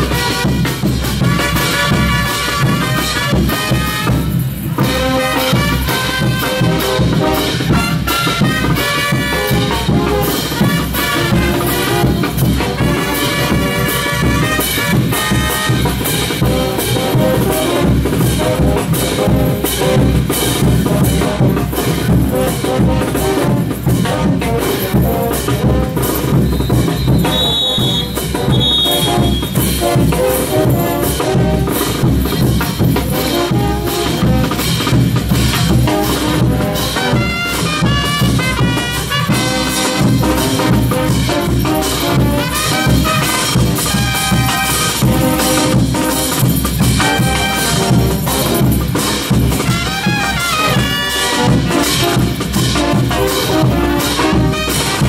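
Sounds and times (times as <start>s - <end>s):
brass band melody: 0.0s - 55.0s
steady drum beat: 0.0s - 55.0s.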